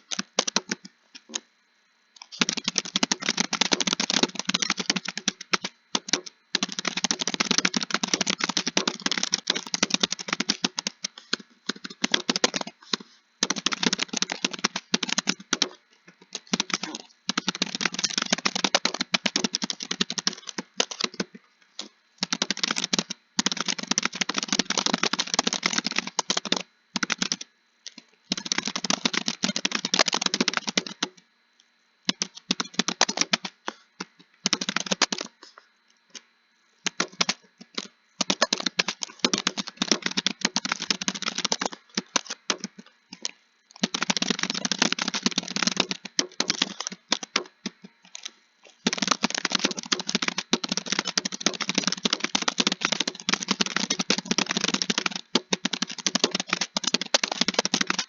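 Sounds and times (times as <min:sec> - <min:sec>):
fast typing on keyboard: 0:00.0 - 0:01.4, 0:02.2 - 0:31.2, 0:32.1 - 0:35.4, 0:36.8 - 0:58.0.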